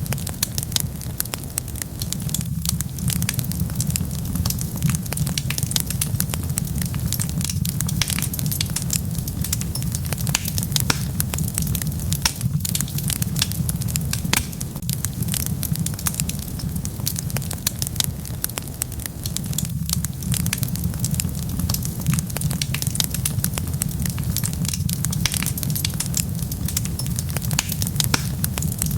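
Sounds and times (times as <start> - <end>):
low fire rumble: 0.0 - 28.9
wood fire crackling and popping: 0.0 - 28.9.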